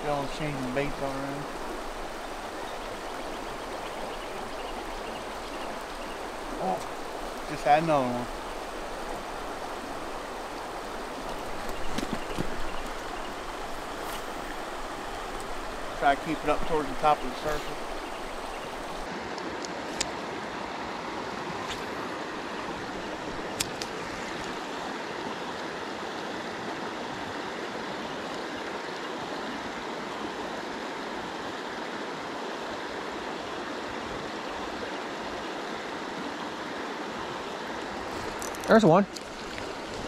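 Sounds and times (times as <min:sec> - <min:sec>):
flowing creek water: 0:00.0 - 0:40.0.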